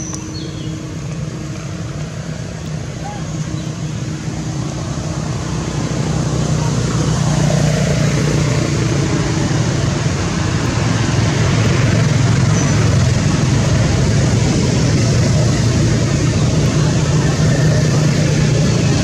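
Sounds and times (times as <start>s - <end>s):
motor running drone: 0.0s - 19.0s.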